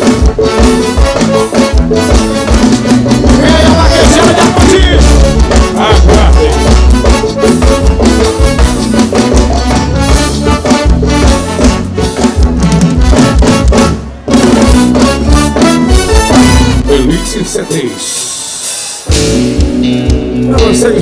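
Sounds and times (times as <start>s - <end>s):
brass playing: 0.0s - 19.8s
drum kit: 0.0s - 21.0s
instrumental band music: 0.0s - 21.0s.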